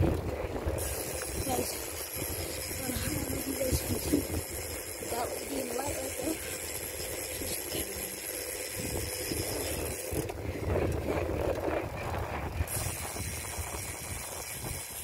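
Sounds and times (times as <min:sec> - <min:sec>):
road and bike noise: 0:00.0 - 0:15.0
wind rumbling on microphone: 0:00.0 - 0:15.0.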